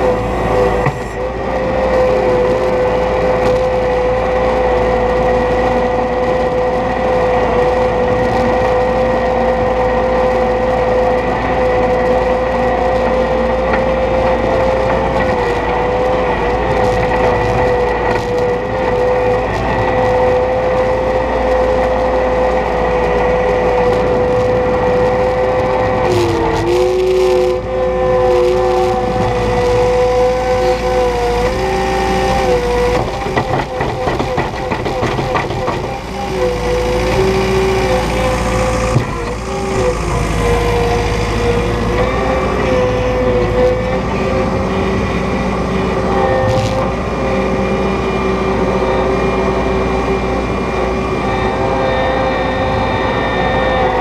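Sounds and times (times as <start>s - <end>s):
hydraulic whine: 0.0s - 54.0s
skid steer engine running: 0.0s - 54.0s.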